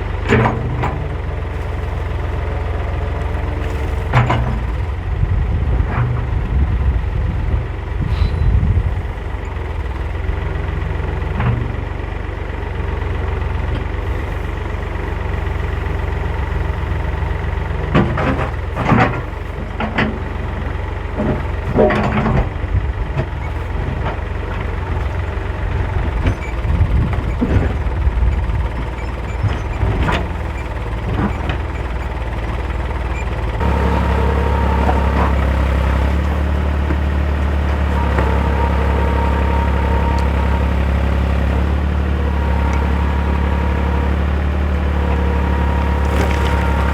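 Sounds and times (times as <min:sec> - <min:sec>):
backhoe engine running: 0:00.0 - 0:46.9.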